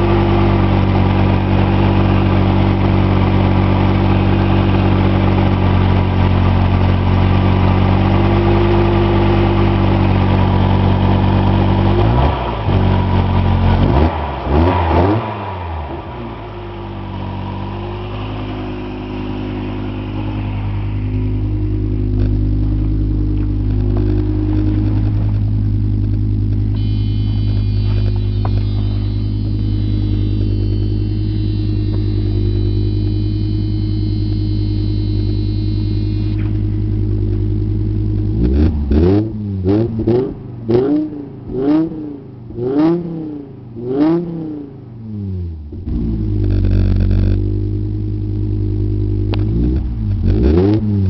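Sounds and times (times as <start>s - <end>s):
rough noise from engine: 0.0s - 43.2s, 45.6s - 51.0s
car engine idling and revving: 0.0s - 51.0s.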